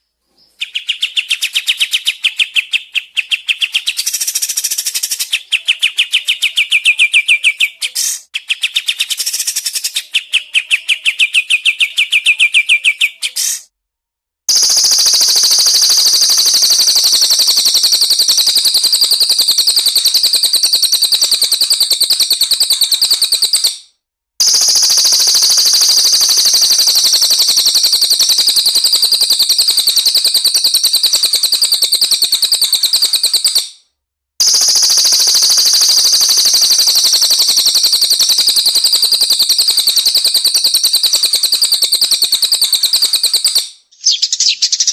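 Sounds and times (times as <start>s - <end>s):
caged songbird chirping and trilling: 0.4s - 13.6s, 14.5s - 23.8s, 24.4s - 33.7s, 34.4s - 44.9s.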